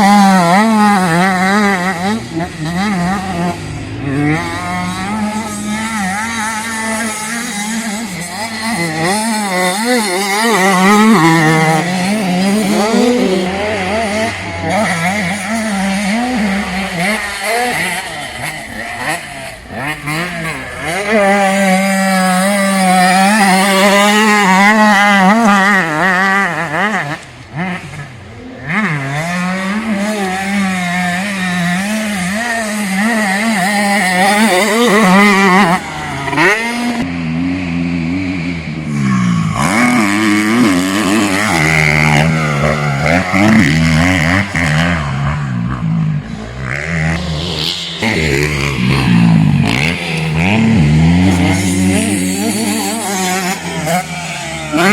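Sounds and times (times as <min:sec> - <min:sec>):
motocross bike engines revving: 0:00.0 - 0:54.9.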